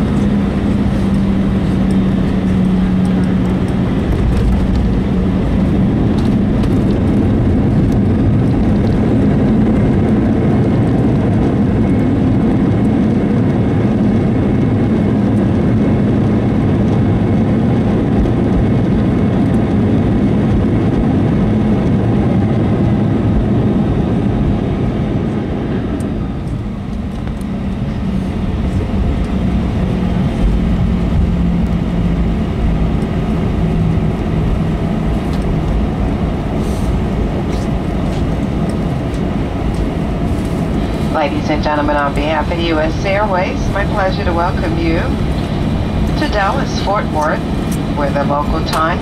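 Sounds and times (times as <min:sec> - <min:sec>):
jet engines and wheels rumbling: 0:00.0 - 0:49.0.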